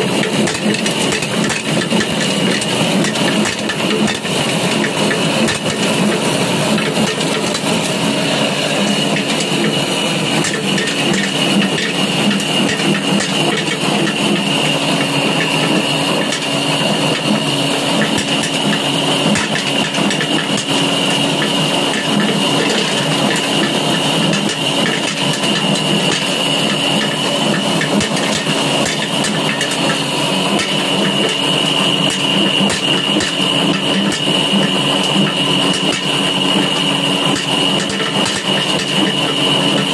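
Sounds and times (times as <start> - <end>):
motor and blower whine: 0.0 - 39.9
rattle of nuts being beaten: 0.0 - 39.9.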